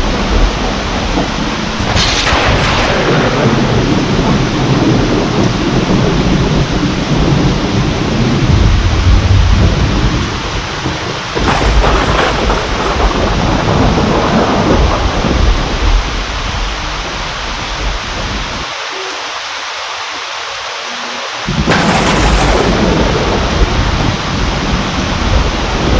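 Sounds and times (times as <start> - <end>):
sharp thunderclap: 0.0 - 18.6, 21.5 - 25.9
rolling thunder: 0.0 - 18.7, 21.4 - 25.9
heavy rain falling: 0.0 - 25.9.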